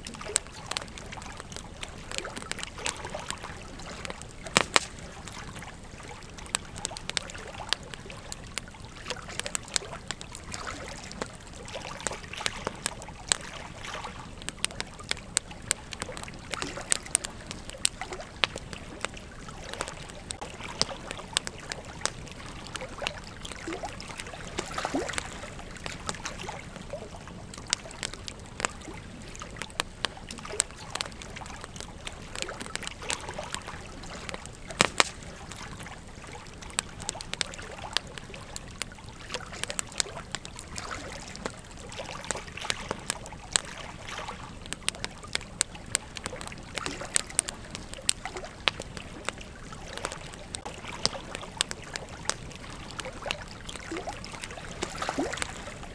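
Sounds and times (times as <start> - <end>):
sharp pops from fire: 0.0 - 55.9
wood fire crackling: 0.0 - 55.9.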